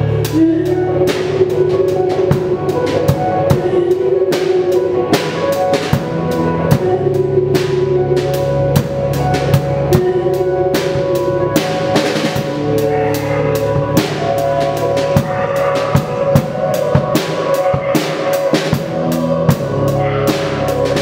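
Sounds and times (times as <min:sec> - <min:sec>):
drum kit playing: 0:00.0 - 0:21.0
held keyboard notes: 0:00.0 - 0:21.0.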